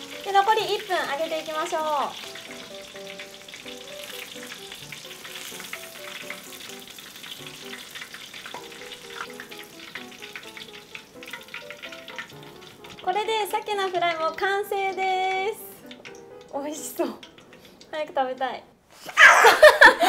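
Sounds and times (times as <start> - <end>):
fish deep-frying in oil: 0.0 - 18.6.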